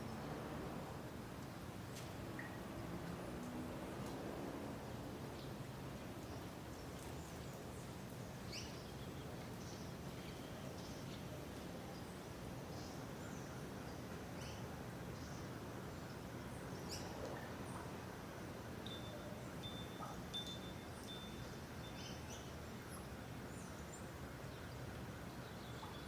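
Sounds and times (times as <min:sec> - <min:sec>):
low background noise: 0:00.0 - 0:26.0.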